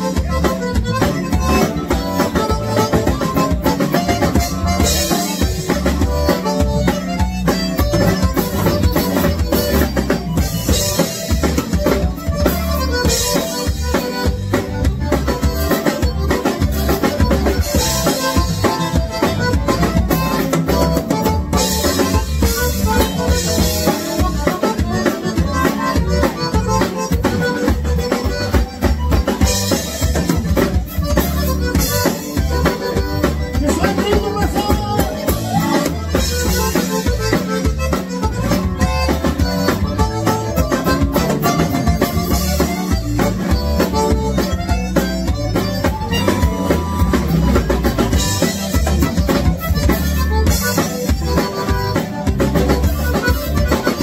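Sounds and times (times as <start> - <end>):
button accordion: 0.0 - 54.0
drum kit: 0.0 - 54.0
electric bass: 0.0 - 54.0.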